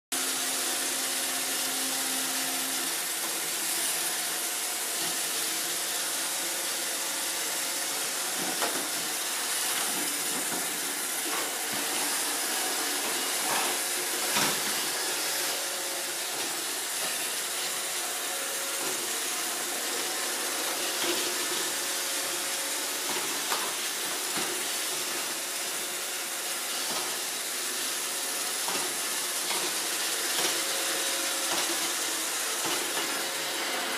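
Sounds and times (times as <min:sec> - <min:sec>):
robot vacuum whirring: 0:00.6 - 0:33.9.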